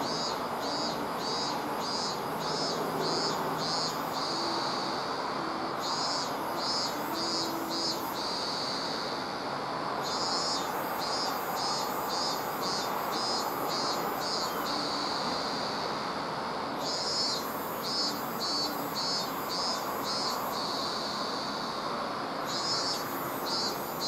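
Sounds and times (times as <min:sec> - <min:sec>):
insect chirping: 0:00.0 - 0:24.0
outdoor background hiss: 0:00.0 - 0:24.0.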